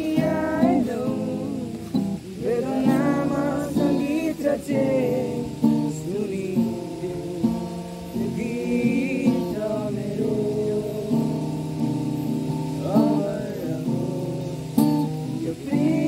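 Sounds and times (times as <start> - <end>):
acoustic guitar strumming chords: 0.0 - 16.0
young men singing together: 0.0 - 16.0.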